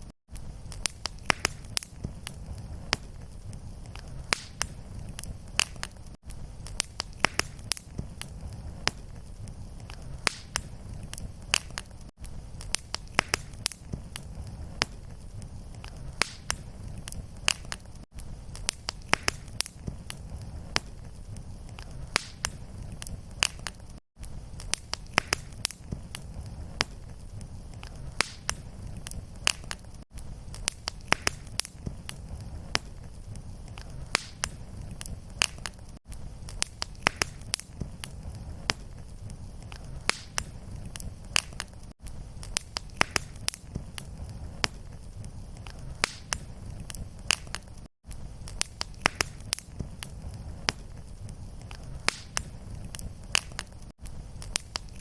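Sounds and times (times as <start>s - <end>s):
fire popping and snapping: 0.0s - 55.0s
low rumble of flame: 0.0s - 55.0s.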